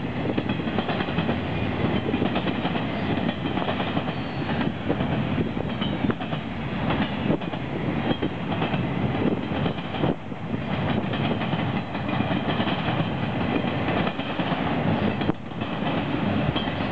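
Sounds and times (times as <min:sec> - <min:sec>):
train wheels rumbling on rail: 0:00.0 - 0:16.9
wheels clacking over rail joints: 0:00.0 - 0:16.9.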